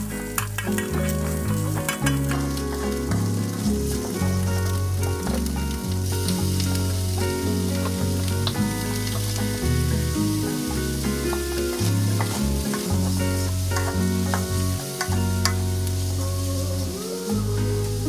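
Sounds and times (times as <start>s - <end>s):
background music with bass: 0.0s - 18.0s
food sizzling in a wok: 0.0s - 18.0s
wooden spatula scraping a wok: 0.1s - 16.8s.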